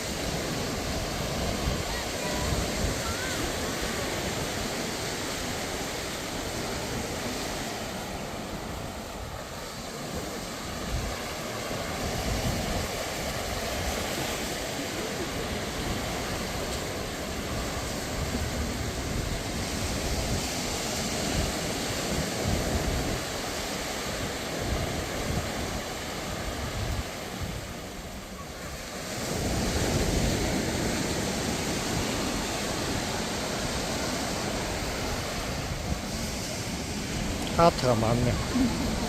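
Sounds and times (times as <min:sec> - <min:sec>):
wind buffeting microphone: 0:00.0 - 0:37.6, 0:38.2 - 0:39.0
waves breaking on beach: 0:00.0 - 0:39.0.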